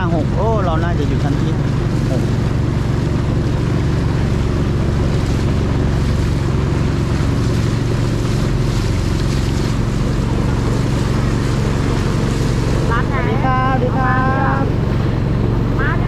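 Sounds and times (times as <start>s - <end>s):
boat engine running: 0.0s - 16.0s
water rushing past hull: 0.0s - 16.0s.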